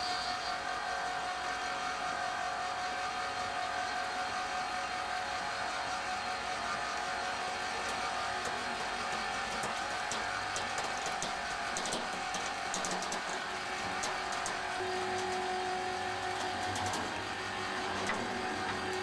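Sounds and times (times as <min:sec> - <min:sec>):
machine motor whine and hum: 0:00.0 - 0:19.0.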